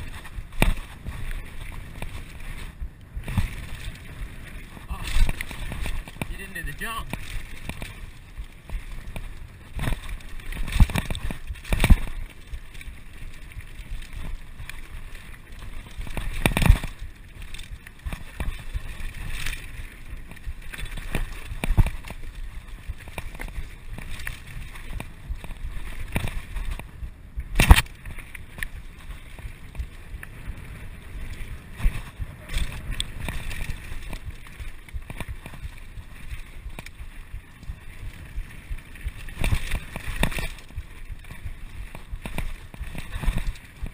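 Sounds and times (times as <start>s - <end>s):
bike tyres rattling on rocky trail: 0.0s - 43.9s.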